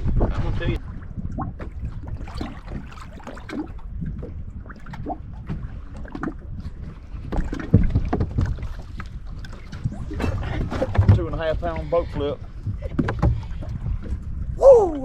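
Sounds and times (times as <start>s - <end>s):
knocks and thumps on boat: 0.0s - 14.6s
wind rumbling on microphone: 0.0s - 15.0s.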